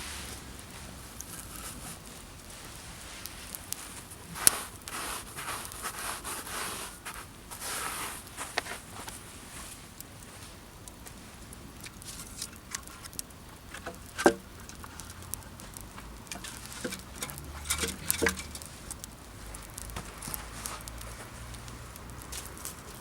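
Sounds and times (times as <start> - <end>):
campfire crackling and popping: 0.2 - 23.0.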